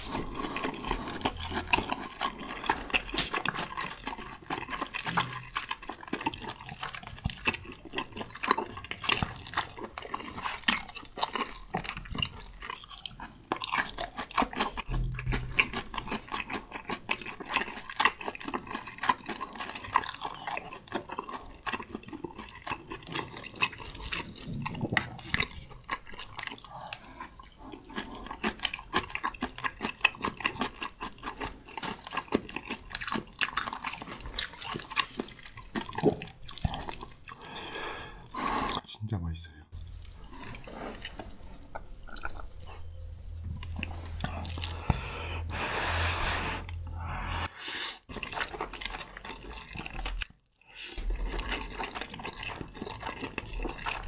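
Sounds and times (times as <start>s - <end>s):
person chewing food: 0.0s - 38.8s, 39.7s - 54.0s.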